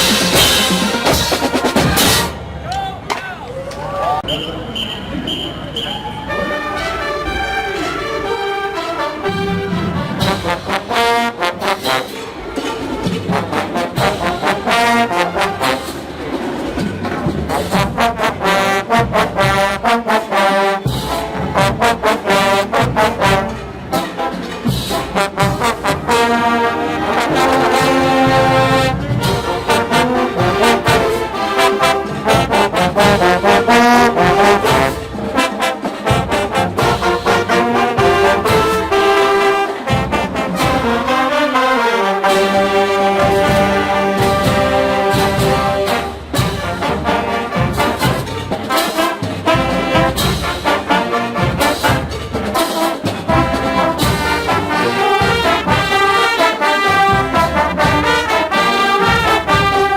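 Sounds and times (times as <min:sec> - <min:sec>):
steady drum beat: 0:00.0 - 0:02.4, 0:09.3 - 0:20.2, 0:20.8 - 0:59.9
marching band playing: 0:00.0 - 0:03.2, 0:04.2 - 0:59.9.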